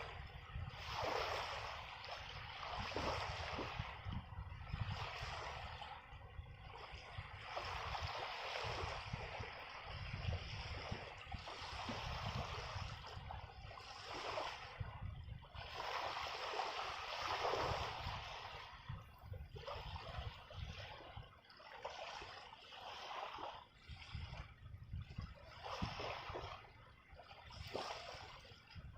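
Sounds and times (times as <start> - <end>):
wind buffeting microphone: 0.0 - 21.5, 23.8 - 28.9
water sloshing and lapping: 0.0 - 28.9.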